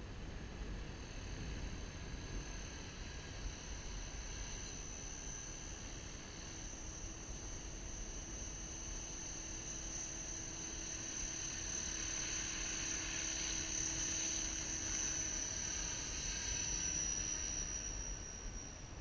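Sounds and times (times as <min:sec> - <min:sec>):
rc helicopter motor whine: 0:00.3 - 0:19.0.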